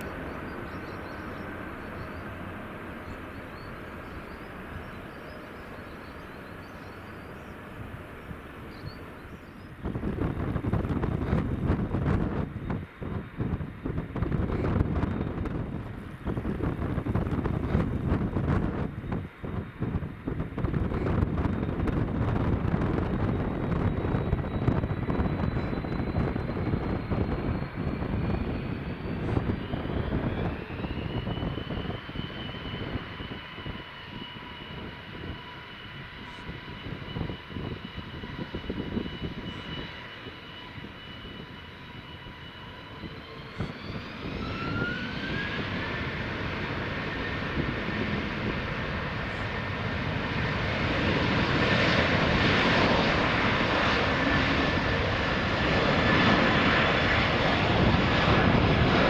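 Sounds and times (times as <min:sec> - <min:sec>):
jet engines rumbling: 0:00.0 - 0:59.0
jet engines spooling up: 0:00.0 - 0:59.0.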